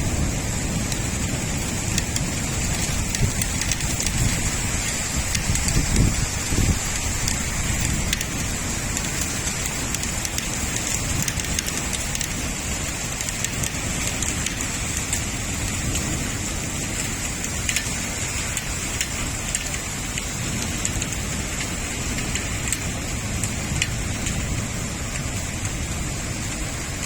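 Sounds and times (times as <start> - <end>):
heavy rain: 0.0 - 27.0
raindrops ticking on hard surfaces: 0.0 - 27.0.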